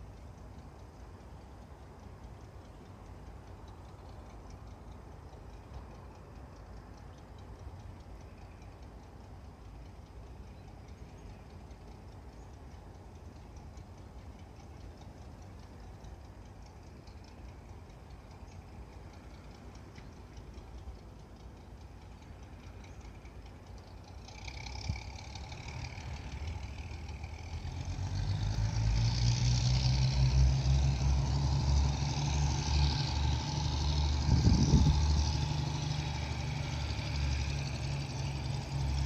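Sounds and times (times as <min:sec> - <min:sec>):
diesel locomotive rumbling: 0:00.0 - 0:39.0
rapid high ticking: 0:00.0 - 0:39.0.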